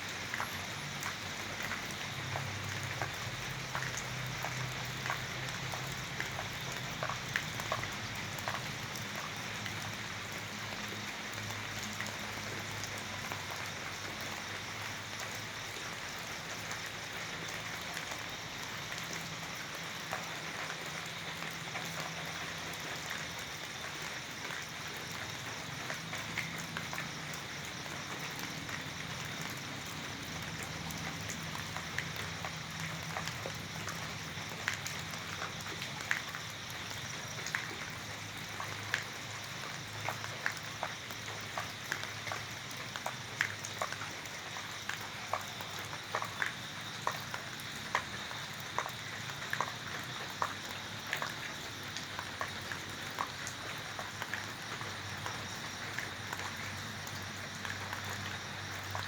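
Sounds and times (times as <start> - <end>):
raindrops ticking: 0.1 - 59.0.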